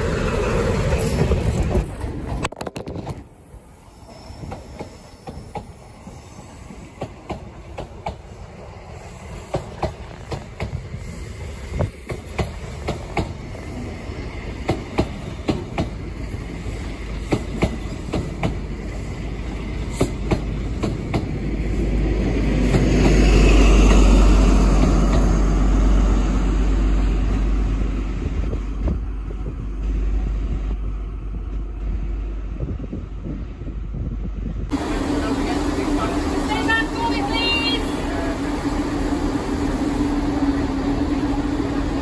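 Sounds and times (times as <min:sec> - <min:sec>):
train rolling rumble: 0:00.0 - 0:42.0.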